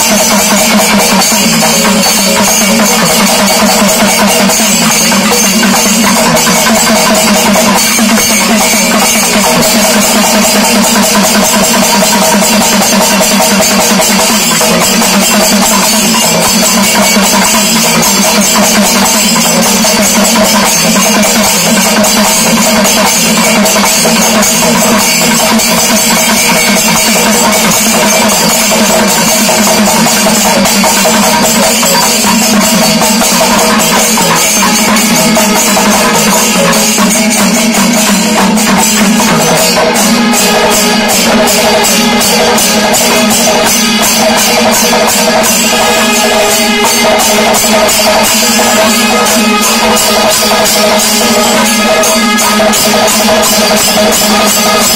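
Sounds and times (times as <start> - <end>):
barrel drums beaten by hand: 0.0 - 54.9
hand cymbals clashing: 0.0 - 54.9.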